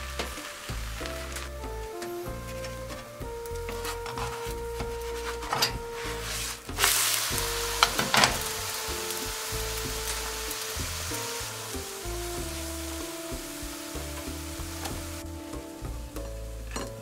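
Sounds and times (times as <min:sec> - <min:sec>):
crepe sizzling in a frying pan: 0:00.0 - 0:02.4, 0:03.2 - 0:17.0.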